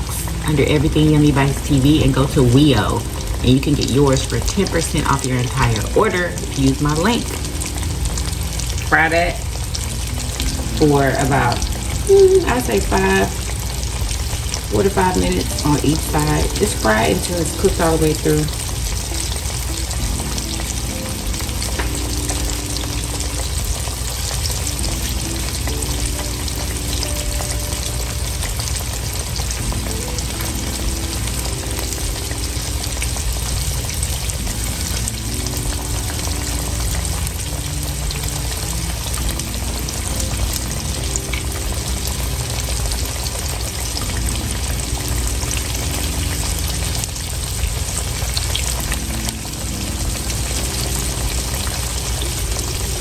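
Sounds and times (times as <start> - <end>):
chicken sizzling in hot oil: 0.0 - 53.0.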